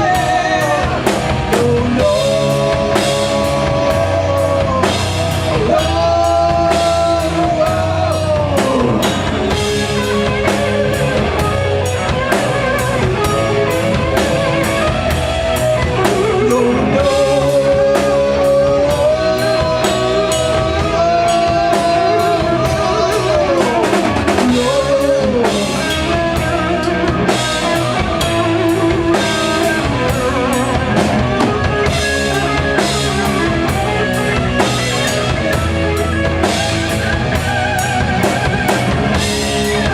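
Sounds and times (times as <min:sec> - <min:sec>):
live rock band playing: 0:00.0 - 0:39.9
sliding lead guitar line: 0:00.0 - 0:39.9.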